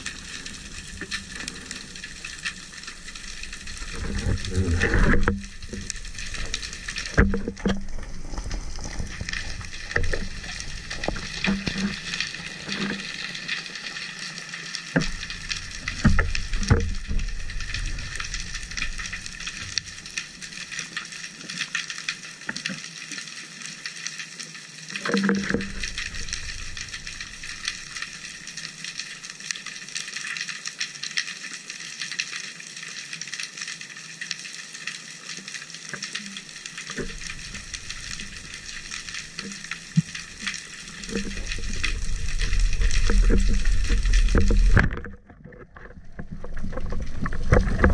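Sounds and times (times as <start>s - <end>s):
underwater crackling fizz of clicks: 0.0s - 47.9s.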